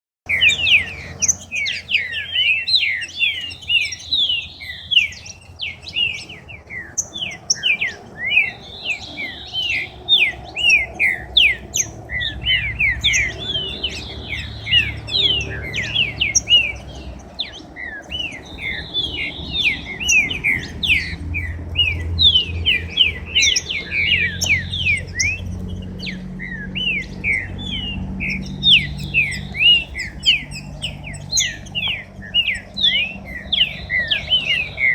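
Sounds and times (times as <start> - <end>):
songbirds chirping and singing: 0.3 - 34.9.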